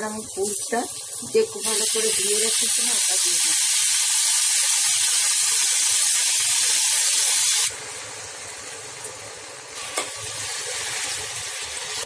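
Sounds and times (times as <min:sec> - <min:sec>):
wet vegetables sizzling in hot oil: 0:00.0 - 0:12.0.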